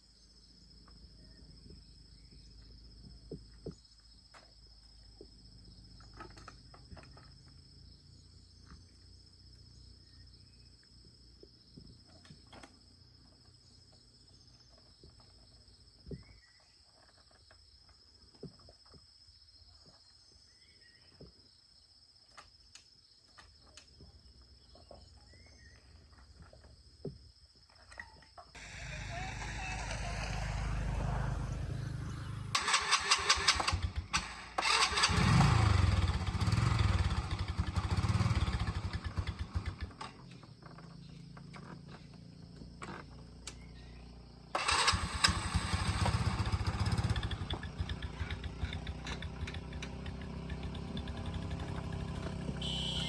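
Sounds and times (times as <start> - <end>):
insects chirring: 0.0 - 35.4, 37.2 - 45.1, 46.2 - 53.0.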